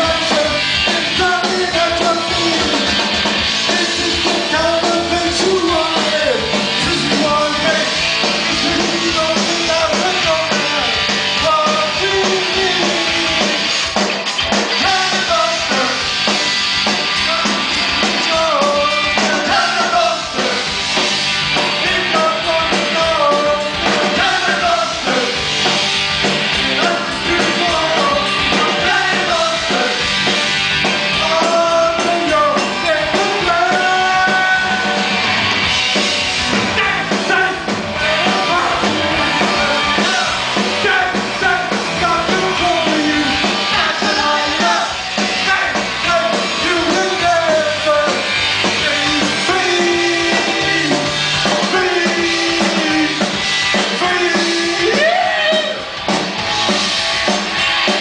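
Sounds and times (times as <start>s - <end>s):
person singing lead vocal: 0.0s - 13.7s, 14.7s - 16.4s, 17.1s - 20.8s, 21.6s - 25.6s, 26.4s - 30.4s, 31.0s - 35.1s, 36.6s - 55.9s
bass guitar: 0.0s - 58.0s
drums: 0.0s - 58.0s
electric guitars: 0.0s - 58.0s.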